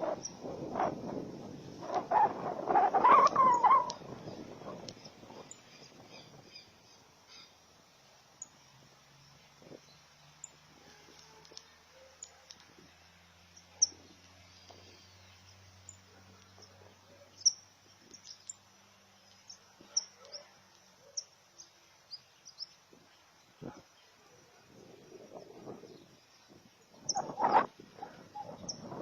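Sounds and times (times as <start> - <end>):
small birds chirping: 0.0 - 0.6, 1.6 - 29.0.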